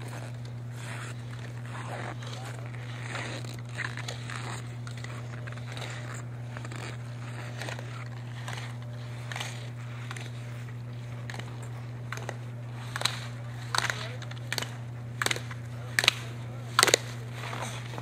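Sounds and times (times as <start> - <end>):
faint crackles and scrapes: 0.0 - 18.0
steady low hum: 0.0 - 18.0.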